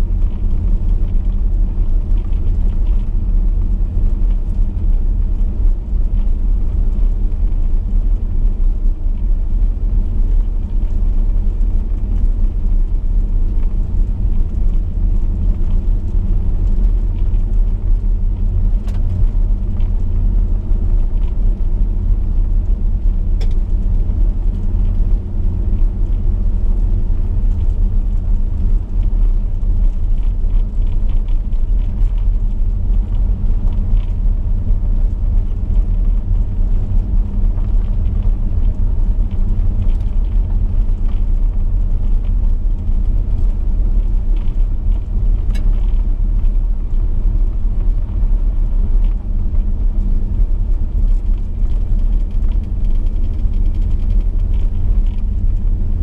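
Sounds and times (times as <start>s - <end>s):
car engine rumble: 0.0s - 56.0s.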